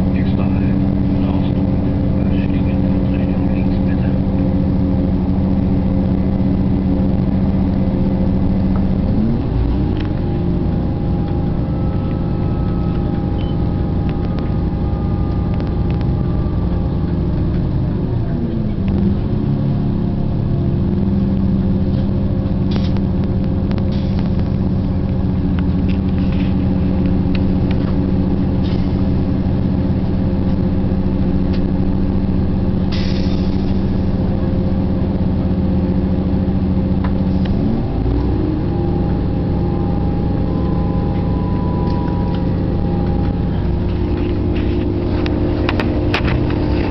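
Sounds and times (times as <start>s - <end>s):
train running drone: 0.0s - 46.9s.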